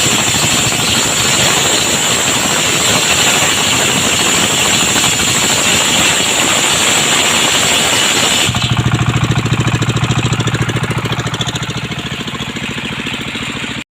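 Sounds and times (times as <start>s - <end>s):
circular saw blade whine: 0.0s - 13.8s
engine chugging: 0.0s - 13.8s.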